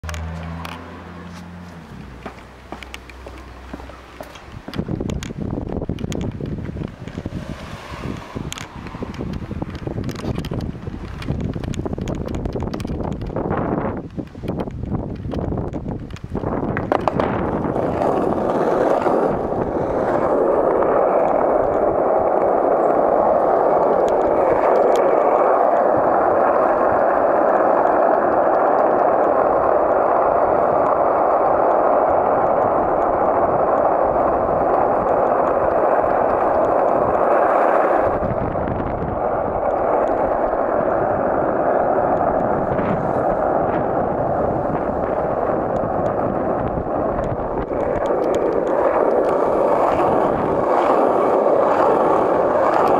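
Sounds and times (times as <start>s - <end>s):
skateboard wheels rolling on asphalt: 0.0s - 52.9s.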